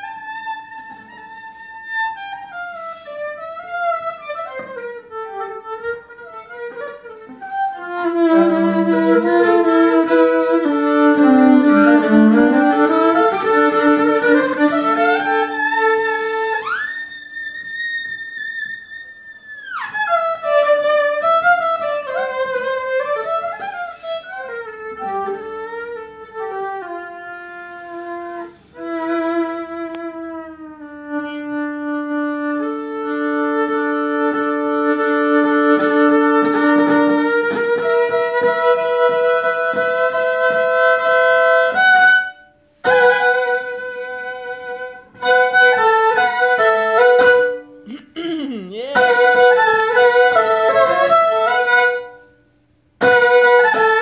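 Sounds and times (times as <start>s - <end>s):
solo violin: 0.0s - 47.8s, 48.9s - 52.4s, 53.0s - 54.0s.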